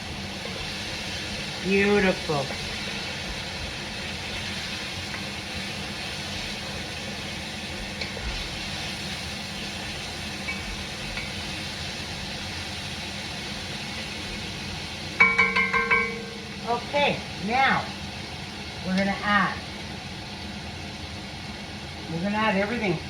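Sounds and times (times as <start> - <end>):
wine simmering with sizzling hiss: 0.0 - 23.0.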